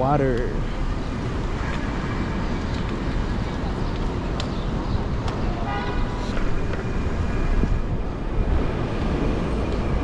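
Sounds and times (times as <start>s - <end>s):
road noise: 0.0s - 10.0s
wind buffeting microphone: 0.0s - 10.0s.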